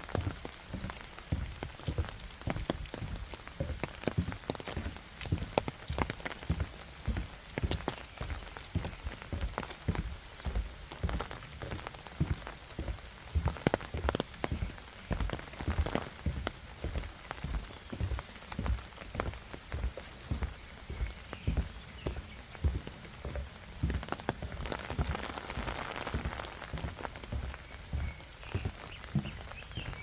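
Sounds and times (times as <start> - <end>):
rain falling: 0.0 - 30.0
soft low thuds: 0.0 - 30.0.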